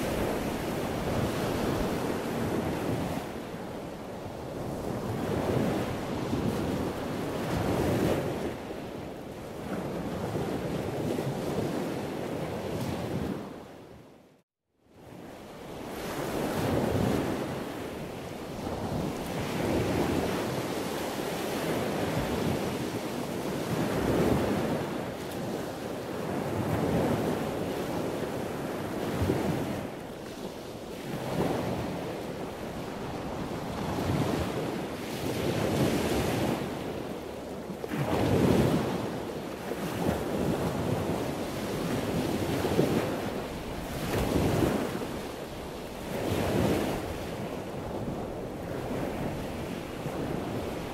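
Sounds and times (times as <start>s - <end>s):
ocean surf washing onto beach: 0.0s - 13.6s, 15.1s - 50.9s
wind gusting on microphone: 0.0s - 14.1s, 15.0s - 50.9s.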